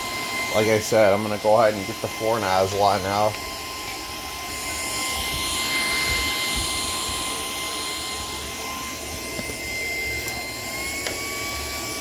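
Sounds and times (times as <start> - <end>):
vacuum cleaner motor whine: 0.0 - 12.0.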